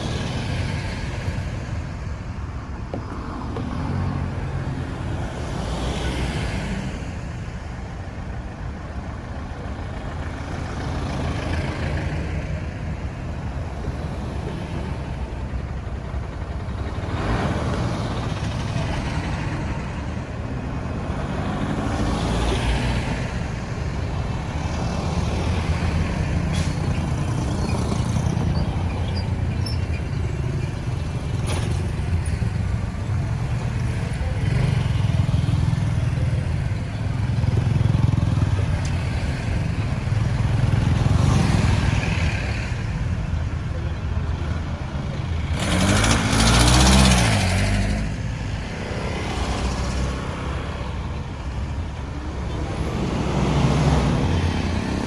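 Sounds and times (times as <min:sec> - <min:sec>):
road traffic rumble: 0:00.0 - 0:55.0
vehicles passing: 0:00.0 - 0:55.0.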